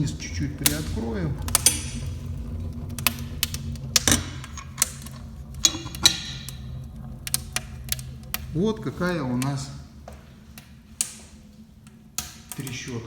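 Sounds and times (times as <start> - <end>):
steady low hum: 0.0 - 13.0
wood fire crackling: 0.0 - 13.0.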